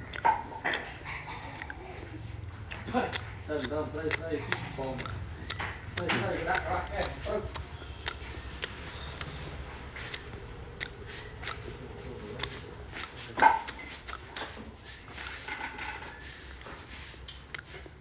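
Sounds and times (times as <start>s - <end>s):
crunching food: 0.0s - 15.6s, 17.3s - 18.0s
man chewing with mouth clicks: 0.0s - 18.0s.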